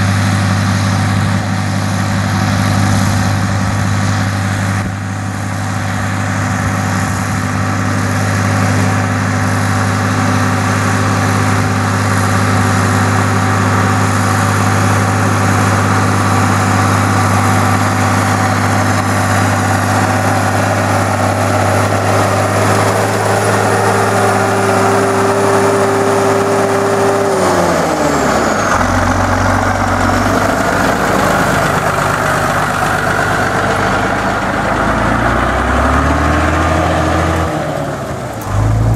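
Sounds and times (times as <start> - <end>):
steady mechanical whine: 0.0 - 37.2
tractor diesel engine under load: 0.0 - 38.9.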